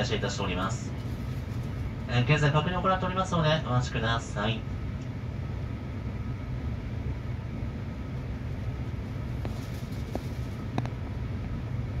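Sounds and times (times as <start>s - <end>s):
train car ventilation hum: 0.0s - 12.0s.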